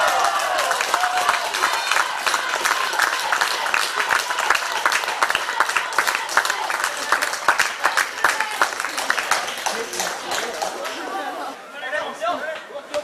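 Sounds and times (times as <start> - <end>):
crowd clapping: 0.0 - 11.5.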